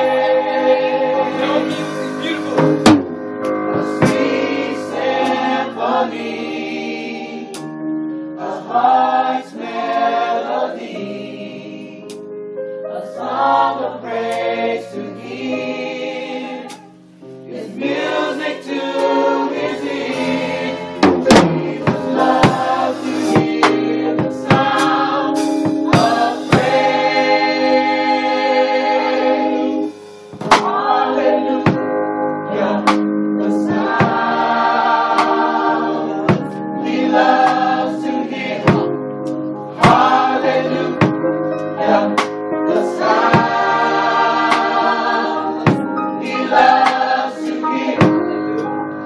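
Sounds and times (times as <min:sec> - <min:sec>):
choir singing: 0:00.0 - 0:03.0, 0:03.7 - 0:12.2, 0:12.9 - 0:49.0.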